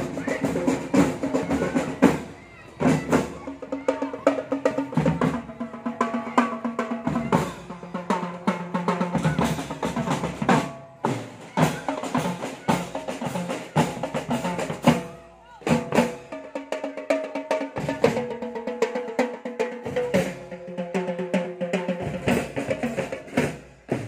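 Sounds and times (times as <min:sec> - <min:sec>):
snare and bass drums: 0:00.0 - 0:24.0.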